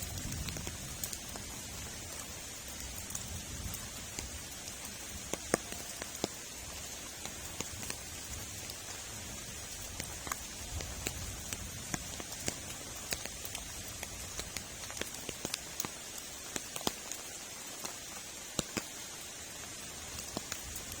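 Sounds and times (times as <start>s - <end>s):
rain falling: 0.0s - 21.0s
raindrops tapping a surface: 0.0s - 21.0s.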